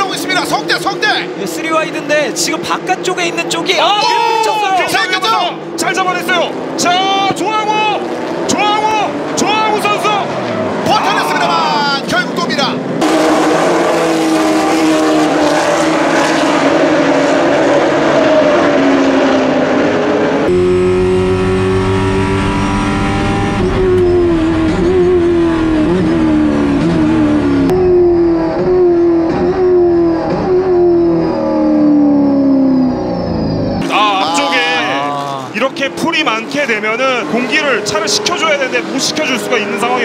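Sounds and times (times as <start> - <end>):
onboard race car engine: 0.0 - 40.0
stock cars racing past: 4.6 - 40.0.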